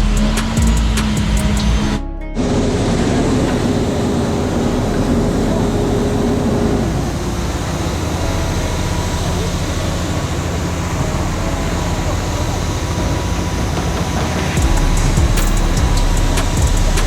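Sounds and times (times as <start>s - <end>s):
machinery engines running: 0.0s - 17.0s
pitched hum: 0.0s - 17.0s.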